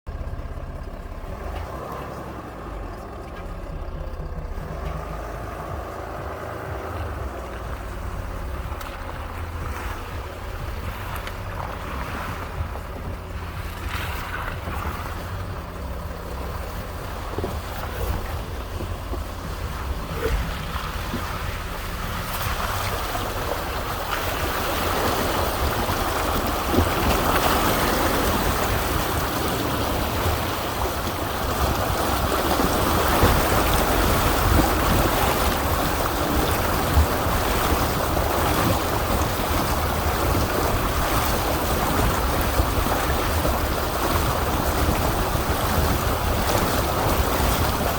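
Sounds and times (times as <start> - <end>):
low engine rumble: 0.0 - 47.9
rushing water: 0.1 - 47.9.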